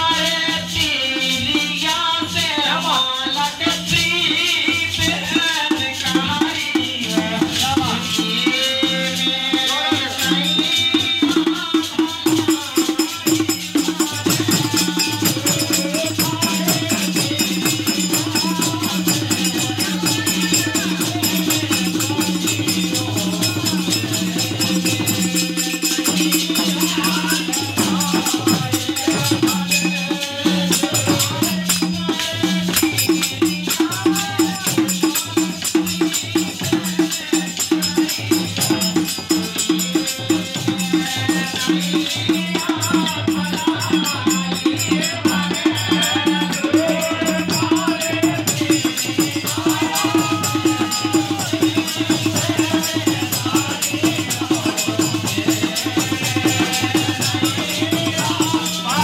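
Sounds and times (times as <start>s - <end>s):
bright rattling percussion: 0.0s - 59.0s
hand drum rhythm: 0.0s - 59.0s
woman singing: 0.0s - 59.0s.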